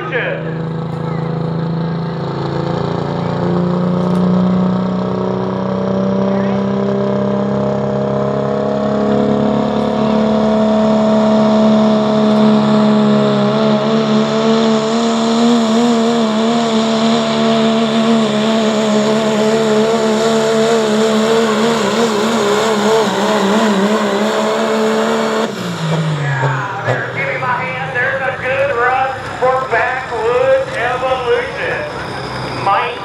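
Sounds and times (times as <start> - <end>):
pickup truck engine at full throttle: 0.0 - 33.0.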